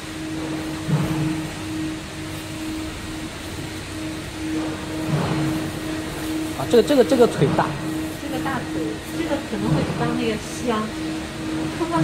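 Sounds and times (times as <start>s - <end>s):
pressure fryer humming and hissing: 0.0s - 12.0s.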